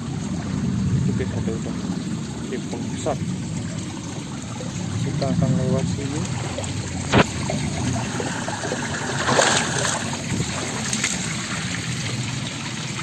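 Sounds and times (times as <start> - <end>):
stream running over rocks: 0.0 - 13.0
water splash: 0.0 - 13.0.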